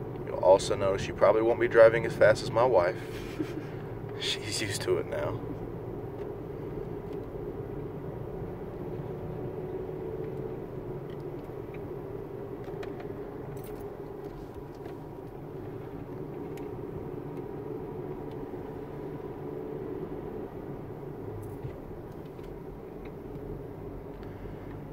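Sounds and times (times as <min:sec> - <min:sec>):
car engine and tyre noise: 0:00.0 - 0:24.9.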